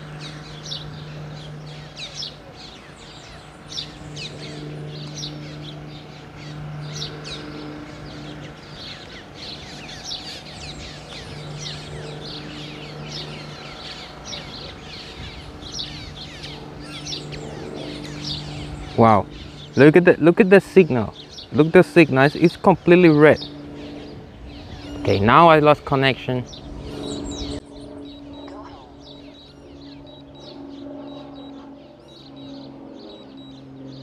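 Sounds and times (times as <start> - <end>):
birds chirping: 0.0 - 34.0
steady low hum: 0.0 - 34.0.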